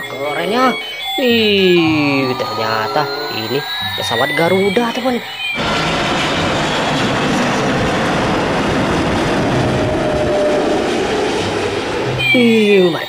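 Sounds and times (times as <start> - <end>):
jet airliner roar: 0.0 - 13.0.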